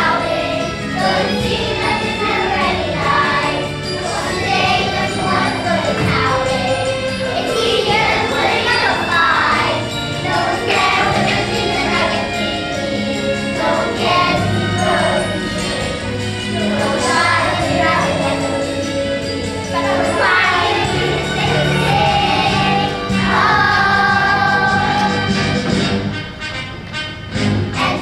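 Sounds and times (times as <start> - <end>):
children singing together: 0.0 - 25.6, 27.8 - 28.0
instrumental accompaniment with beat: 0.0 - 28.0.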